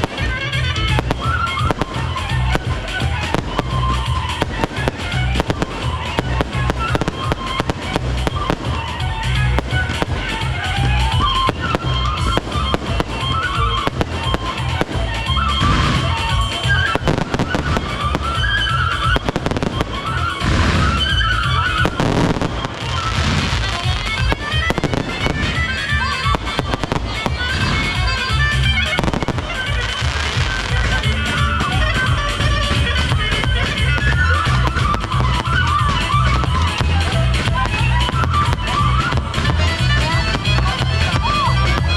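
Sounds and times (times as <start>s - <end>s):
fireworks bangs and cracks: 0.0s - 41.9s
loud music with heavy bass: 0.0s - 41.9s.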